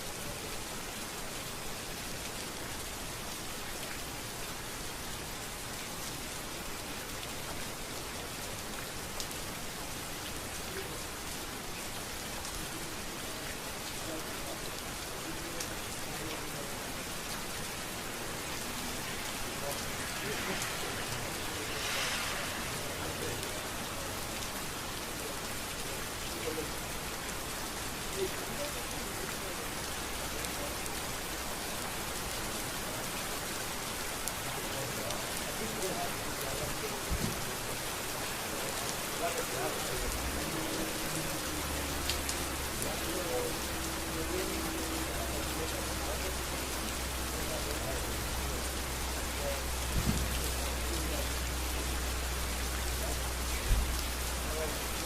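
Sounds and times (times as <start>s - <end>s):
rain falling on a street: 0.0s - 55.0s.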